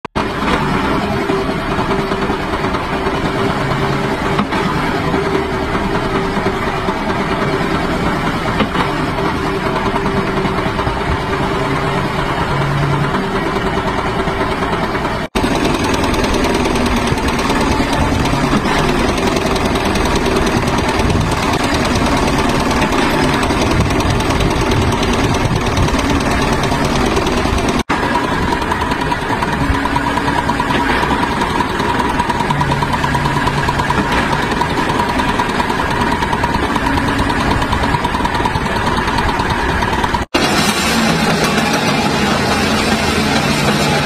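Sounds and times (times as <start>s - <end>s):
tractor engine running: 0.1s - 44.0s.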